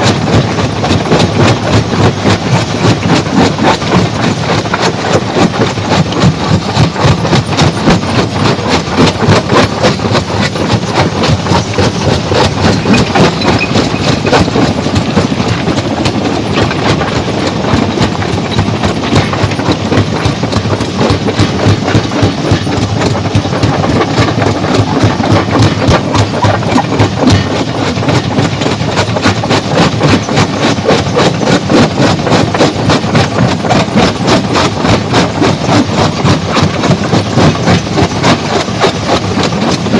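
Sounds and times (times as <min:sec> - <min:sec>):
stone crusher clattering: 0:00.1 - 0:39.9.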